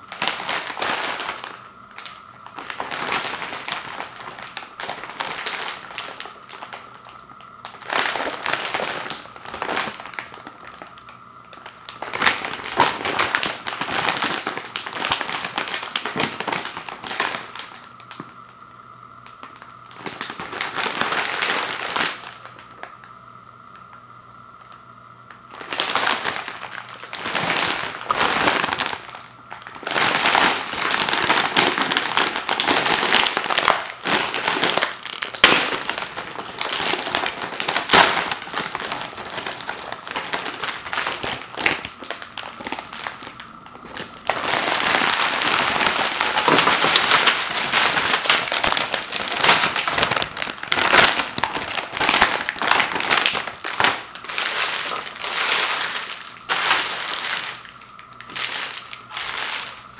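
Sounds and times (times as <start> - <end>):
candies pouring onto wooden floor: 0.0 - 18.4, 19.2 - 22.9, 25.4 - 59.9
plastic bag crinkling: 0.0 - 59.9.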